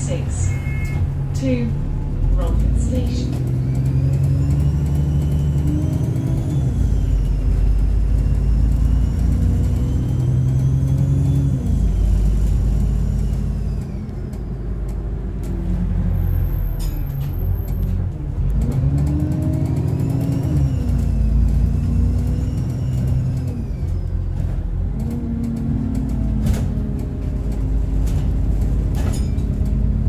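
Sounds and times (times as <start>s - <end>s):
bus engine pulling under load: 0.0s - 30.0s.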